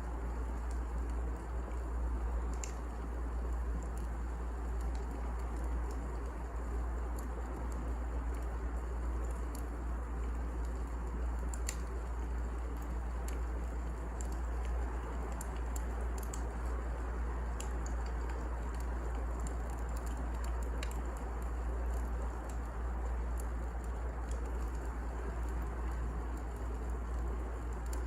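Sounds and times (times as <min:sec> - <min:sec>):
low fire rumble and hiss: 0:00.0 - 0:28.0
wood fire snapping and popping: 0:00.0 - 0:28.0.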